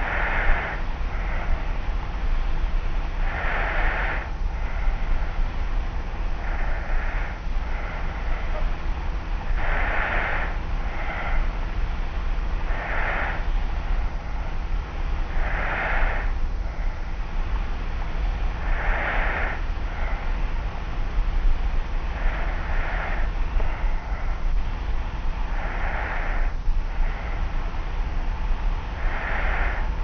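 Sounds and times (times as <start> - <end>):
person snoring lightly: 0.0 - 1.7, 3.1 - 5.4, 6.4 - 11.7, 12.6 - 17.1, 17.8 - 30.0
tape recorder hum and hiss: 0.0 - 30.0.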